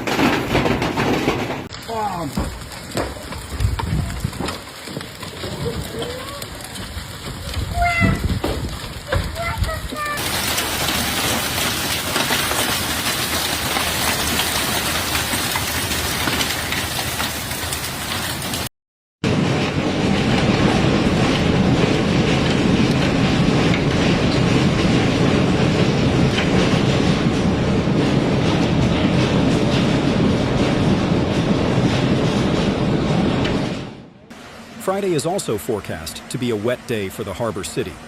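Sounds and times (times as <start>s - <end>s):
heavy rain pouring: 0.0s - 33.5s.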